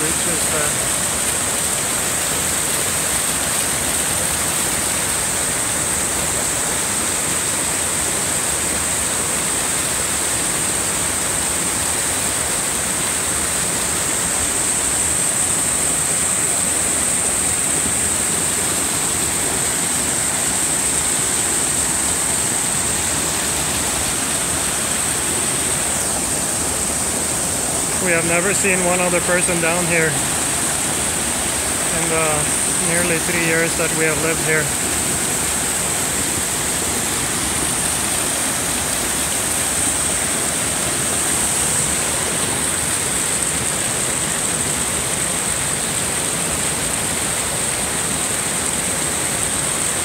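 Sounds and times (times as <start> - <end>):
stream water rushing over rocks: 0.0 - 50.0.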